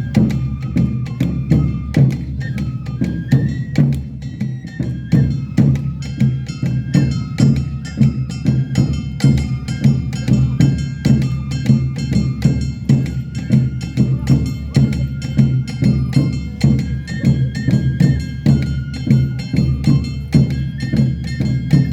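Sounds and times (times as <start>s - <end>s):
drums: 0.0s - 21.9s
held high melody notes: 0.0s - 21.9s.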